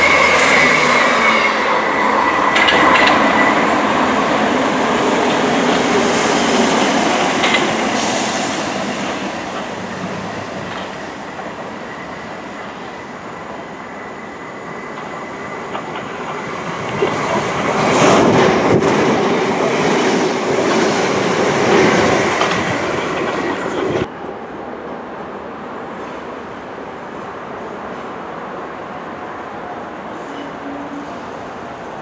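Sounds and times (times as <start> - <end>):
train wheel and rail noise: 0.0 - 32.0.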